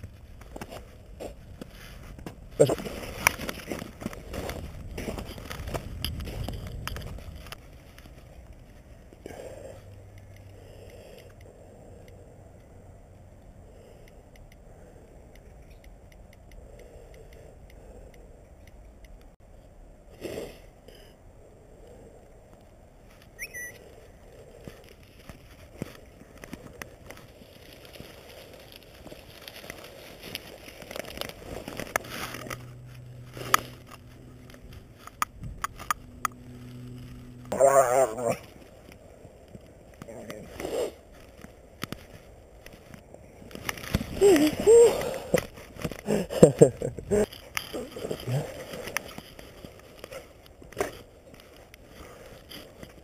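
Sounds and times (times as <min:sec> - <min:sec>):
soft rustle: 0:00.0 - 0:12.3, 0:21.8 - 0:53.0
low steady hum: 0:00.0 - 0:53.0.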